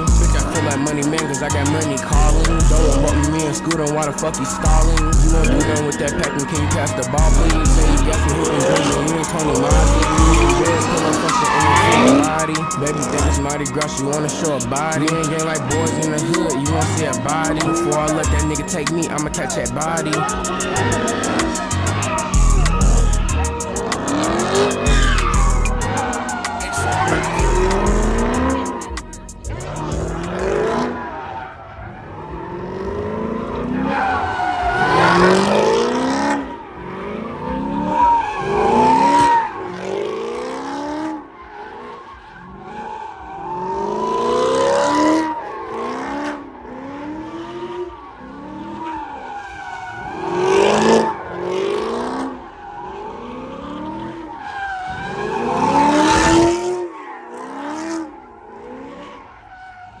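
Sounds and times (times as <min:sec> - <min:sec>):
car engine revving: 0:00.0 - 1:00.0
tyre squeal: 0:00.0 - 1:00.0.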